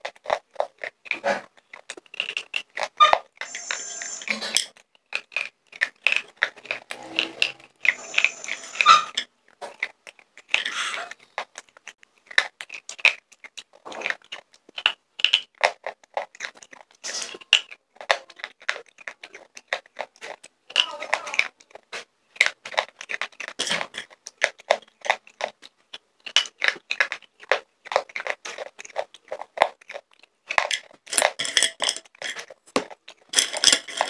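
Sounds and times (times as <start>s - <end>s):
crunching and chewing: 0.0s - 34.0s.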